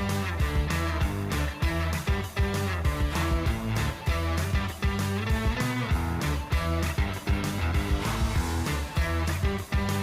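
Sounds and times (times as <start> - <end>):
guitar-led song with bass and beat: 0.0 - 10.0.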